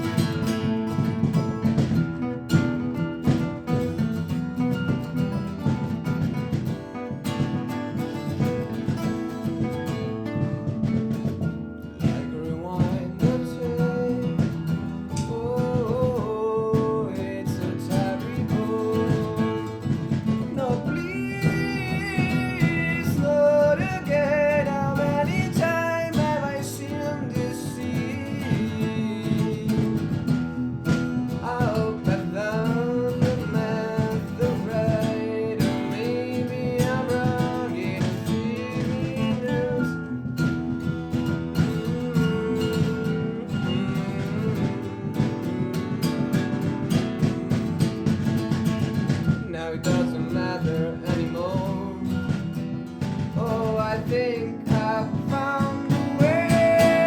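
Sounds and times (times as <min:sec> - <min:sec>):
acoustic guitars: 0:00.0 - 0:57.0
percussion: 0:00.0 - 0:57.0.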